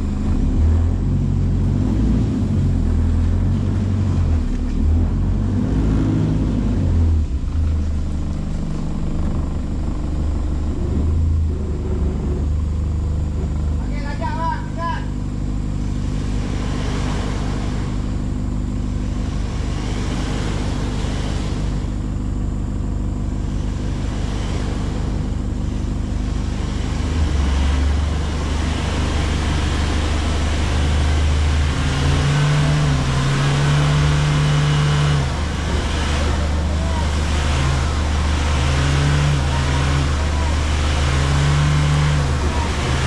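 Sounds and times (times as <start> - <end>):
vehicle engine driving: 0.0 - 43.0.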